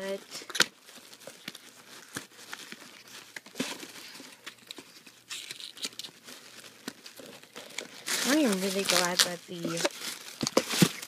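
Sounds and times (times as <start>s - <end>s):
paper and plastic crinkling: 0.0s - 11.0s.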